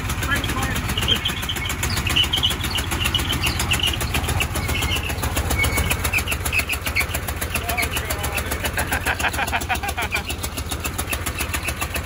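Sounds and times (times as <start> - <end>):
gasoline engine running: 0.0 - 12.0.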